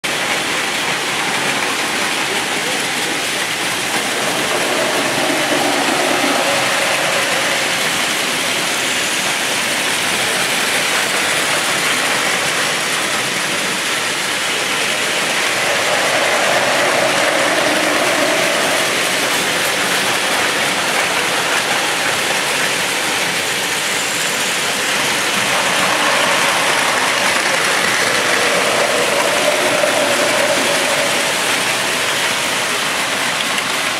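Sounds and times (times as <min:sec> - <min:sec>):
toy trains running on plastic track: 0:00.0 - 0:33.9.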